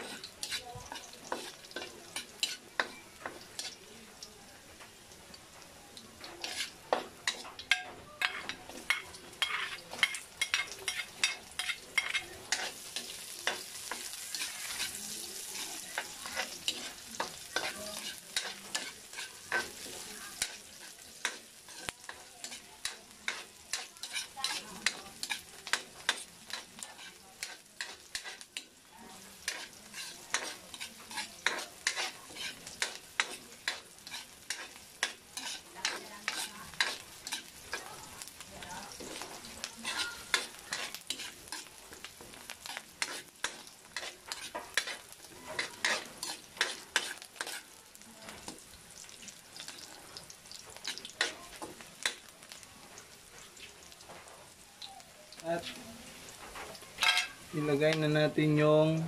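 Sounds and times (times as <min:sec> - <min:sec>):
metal spatula scraping a wok: 0:00.0 - 0:03.8, 0:06.2 - 0:52.4, 0:55.6 - 0:57.9
food sizzling in oil: 0:00.0 - 0:59.0.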